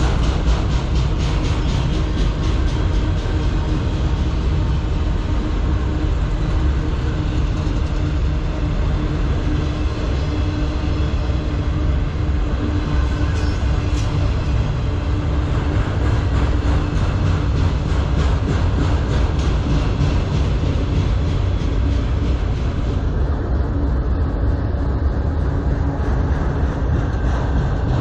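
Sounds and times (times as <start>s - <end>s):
steel wheels rumbling on rails: 0.0s - 28.0s.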